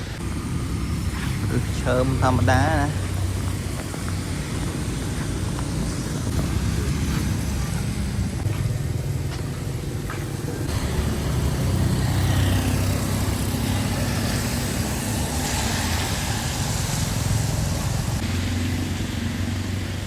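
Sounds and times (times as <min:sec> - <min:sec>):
street noise: 0:00.0 - 0:20.0
vehicle engine running: 0:00.0 - 0:20.0.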